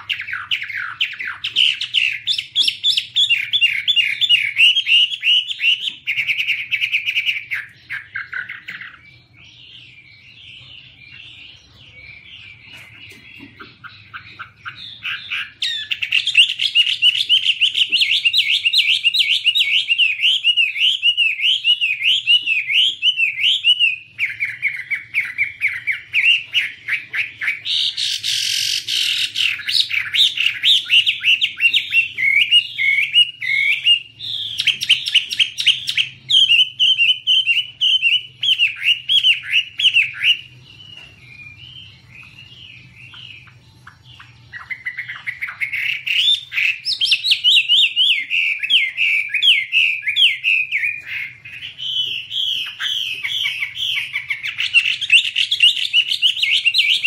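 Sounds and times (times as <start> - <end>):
bird singing warbled notes: 0.0 - 57.0.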